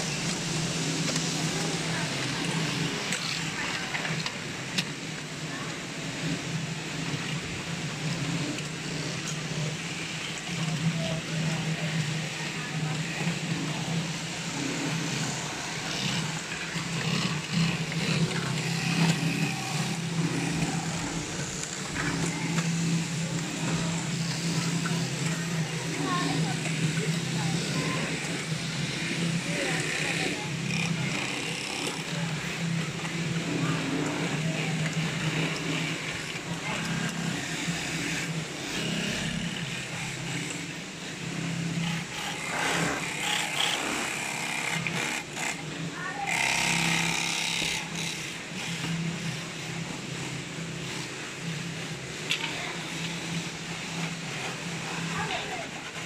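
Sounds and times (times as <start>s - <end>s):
industrial sewing machines running: 0.0s - 56.0s.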